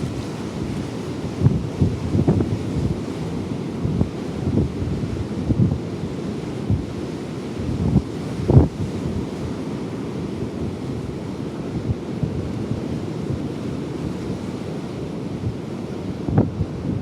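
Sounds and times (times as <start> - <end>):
sea surf rushing: 0.0 - 17.0
wind buffeting microphone: 0.0 - 17.0.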